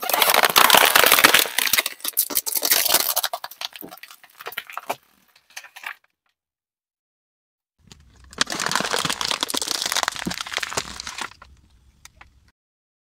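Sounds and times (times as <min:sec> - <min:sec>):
plastic container crackling and crunching: 0:00.0 - 0:06.0, 0:07.8 - 0:12.5.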